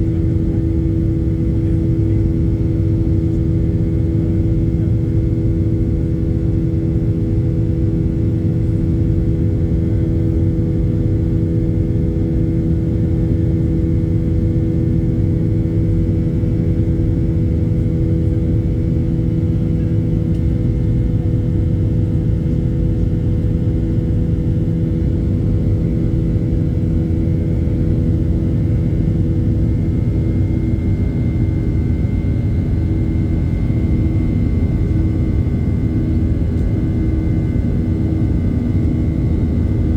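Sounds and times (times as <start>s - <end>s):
jet engine rumble and airflow: 0.0s - 39.9s
steady droning hum: 0.0s - 39.9s.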